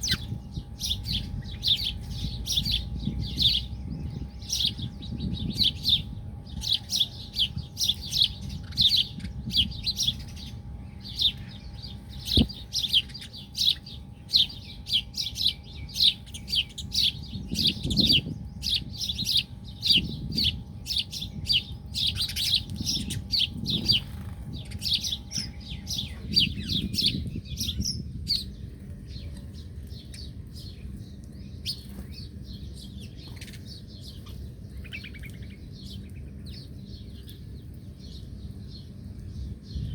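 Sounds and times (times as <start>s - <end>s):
faint steady hum: 0.0s - 39.9s
small birds chirping: 0.0s - 39.9s.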